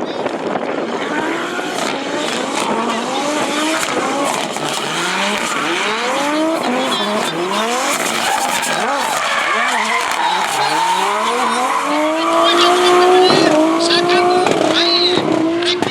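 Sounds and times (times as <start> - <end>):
car engine revving hard: 0.0 - 15.9
tyres squealing and skidding: 0.1 - 15.1.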